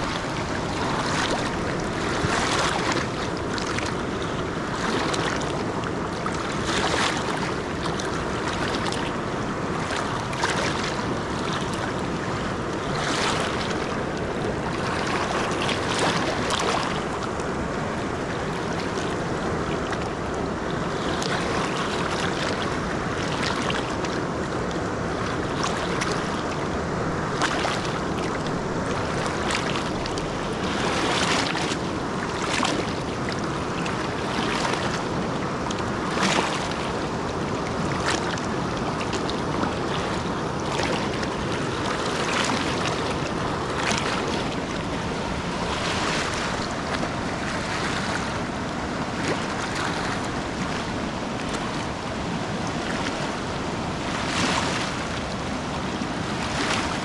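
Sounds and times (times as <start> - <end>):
rushing water: 0.0 - 57.0
water splashes: 0.0 - 57.0.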